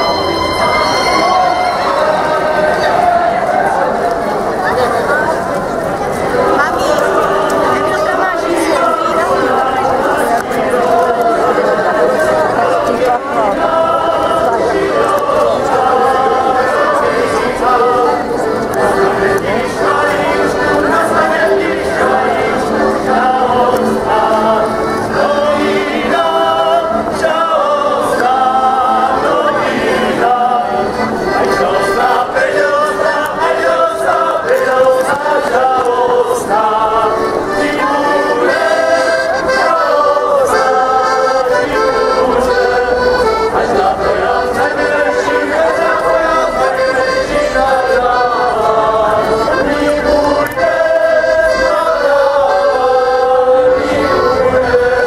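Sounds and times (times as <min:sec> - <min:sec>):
accordion playing folk tune: 0:00.0 - 0:55.0
group of voices singing: 0:00.0 - 0:55.0.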